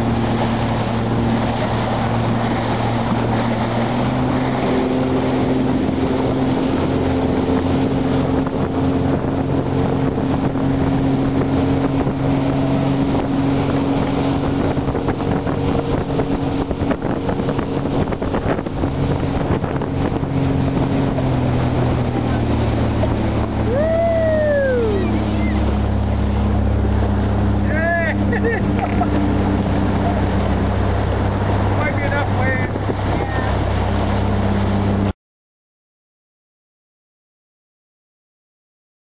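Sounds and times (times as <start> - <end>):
motorboat engine running: 0.0 - 35.1
wind on microphone: 0.0 - 35.1.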